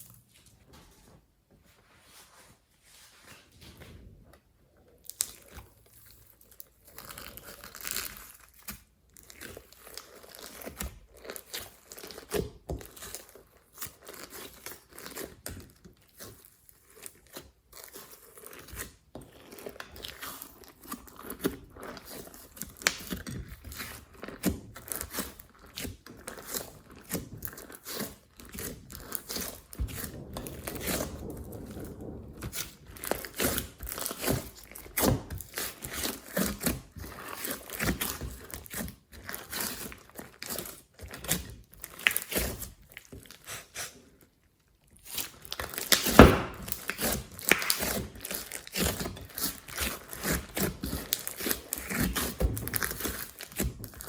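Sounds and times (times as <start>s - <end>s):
slime squished crackling and popping: 5.0s - 54.0s.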